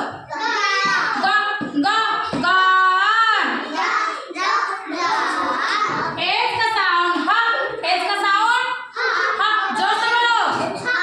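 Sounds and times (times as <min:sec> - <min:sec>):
children singing a chant: 0:00.0 - 0:06.6, 0:08.8 - 0:11.0.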